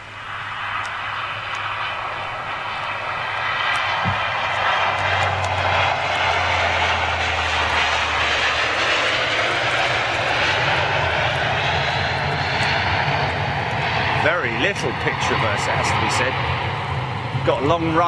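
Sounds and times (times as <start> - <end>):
low hum: 0.0 - 18.0
turboprop engines and propellers: 0.0 - 18.0.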